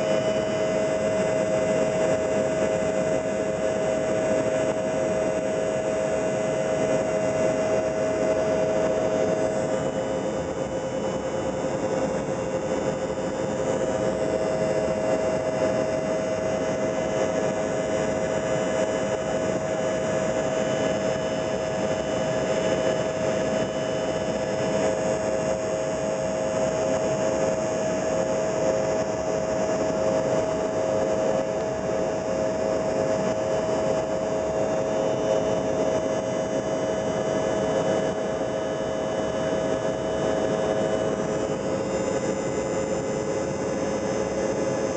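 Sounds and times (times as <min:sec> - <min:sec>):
jet engine roar in cabin: 0:00.0 - 0:44.9
steady hum-like tone: 0:00.0 - 0:44.9.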